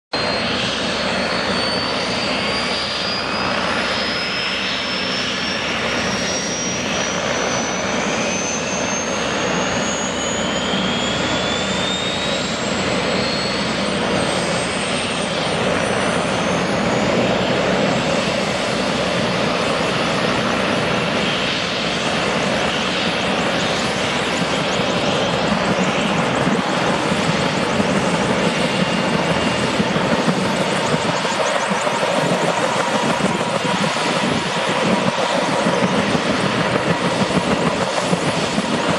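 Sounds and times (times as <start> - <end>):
helicopter turbine whine rising: 0.2 - 38.9.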